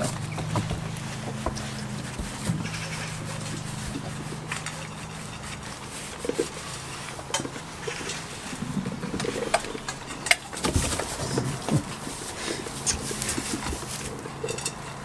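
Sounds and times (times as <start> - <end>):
rustling in straw: 0.0 - 14.7
metal feed bowls clinking: 0.0 - 15.0.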